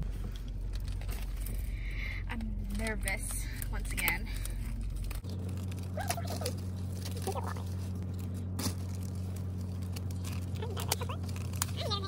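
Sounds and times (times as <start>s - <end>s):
low car cabin hum: 0.0s - 12.0s
plastic bag rustling: 0.0s - 12.0s.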